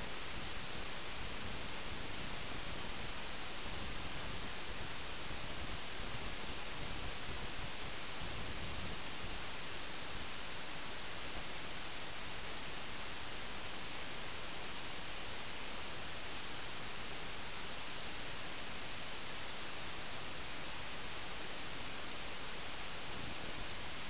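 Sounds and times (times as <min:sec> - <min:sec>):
recording noise hiss: 0:00.0 - 0:24.0.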